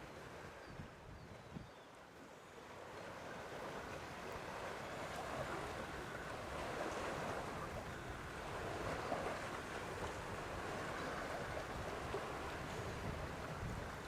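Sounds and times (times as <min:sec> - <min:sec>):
wind buffeting microphone: 0:00.0 - 0:01.8, 0:04.2 - 0:14.0
water lapping: 0:00.0 - 0:14.0
wind: 0:00.0 - 0:14.0.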